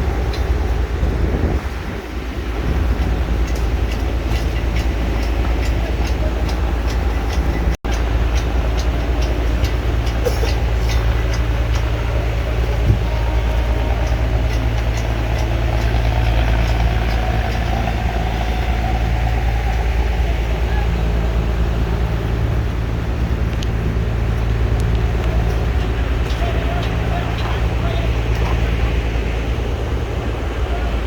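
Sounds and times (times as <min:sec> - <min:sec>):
heavy machinery humming: 0:00.0 - 0:31.0.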